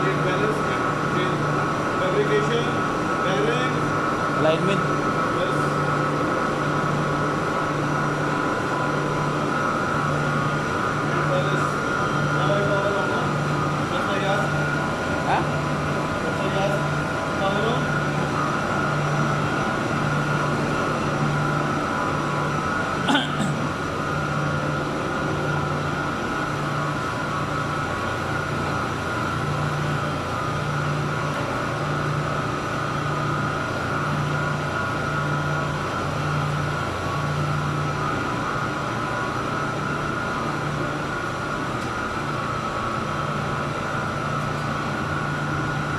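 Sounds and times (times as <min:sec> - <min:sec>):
pump motor humming: 0:00.0 - 0:45.9.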